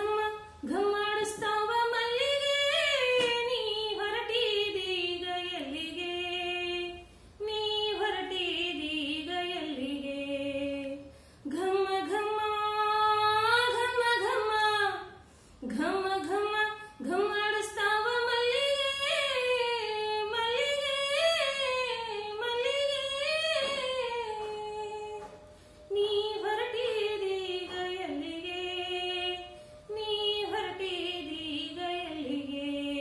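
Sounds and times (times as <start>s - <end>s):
woman singing unaccompanied: 0.0s - 33.0s.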